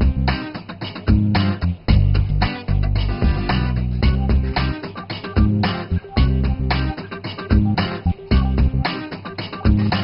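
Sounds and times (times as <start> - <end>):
guitar-led music: 0.0 - 10.0.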